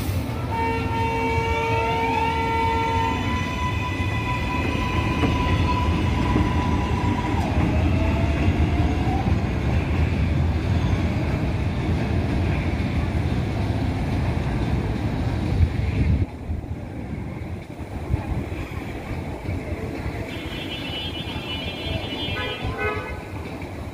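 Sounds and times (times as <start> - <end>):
train wheels rumbling on rails: 0.0 - 23.9.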